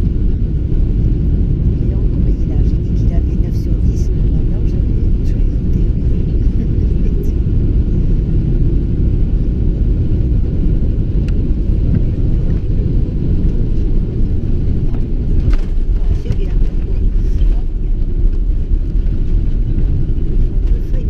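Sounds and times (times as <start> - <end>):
airplane cabin low rumble: 0.0 - 21.0.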